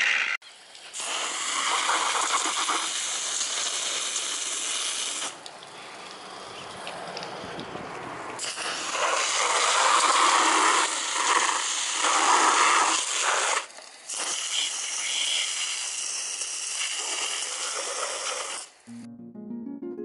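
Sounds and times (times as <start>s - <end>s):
hissing water jet spraying: 0.6s - 7.5s, 8.4s - 18.8s.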